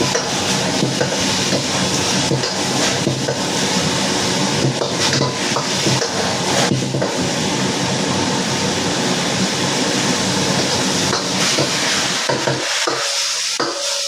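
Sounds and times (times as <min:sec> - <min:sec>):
stirring in a pan: 0:00.0 - 0:07.8, 0:10.1 - 0:14.0
vegetables sizzling in a pan: 0:00.0 - 0:14.0.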